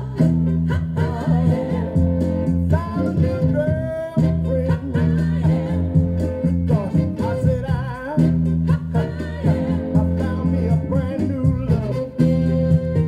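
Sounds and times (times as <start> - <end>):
guitar: 0.0 - 13.0
person singing: 0.0 - 13.0
steady bass line: 0.0 - 13.0.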